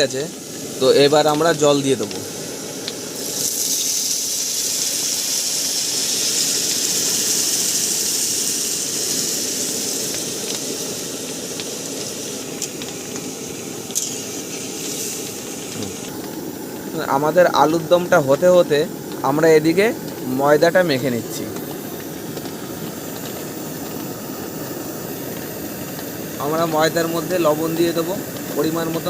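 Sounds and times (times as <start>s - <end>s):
cooking stove noise: 0.0s - 29.0s
water hissing in hot oil: 0.0s - 29.0s.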